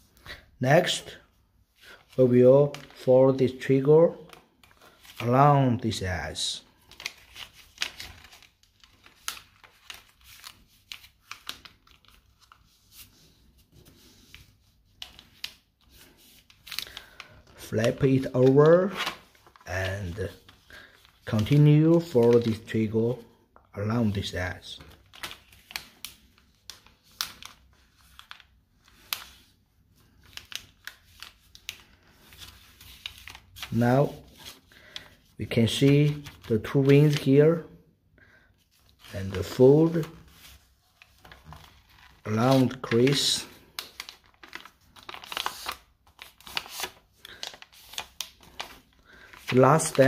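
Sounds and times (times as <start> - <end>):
paper being folded: 0.9 - 37.7, 38.6 - 50.0.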